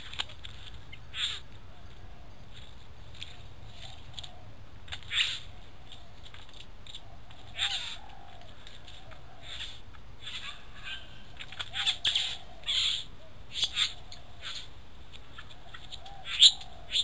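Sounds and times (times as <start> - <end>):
faint bird chirps: 0.0 - 17.0
harsh bird calls: 0.0 - 17.0
steady low hum: 0.0 - 17.0.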